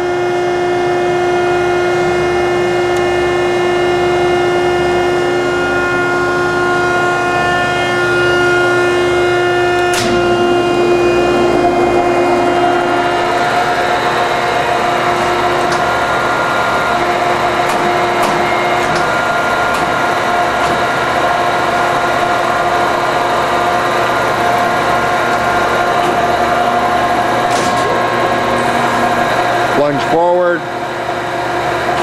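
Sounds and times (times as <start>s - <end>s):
grinder machine whine: 0.0s - 32.0s.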